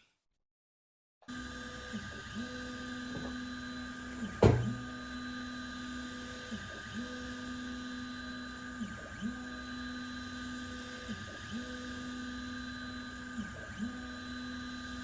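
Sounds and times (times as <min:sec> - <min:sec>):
laser engraver motor whine: 0:01.3 - 0:15.0.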